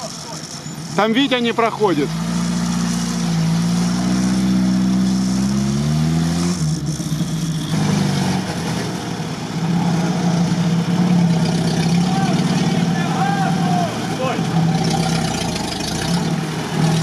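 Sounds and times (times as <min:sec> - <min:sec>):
suv engine running at low revs: 0:00.0 - 0:17.0.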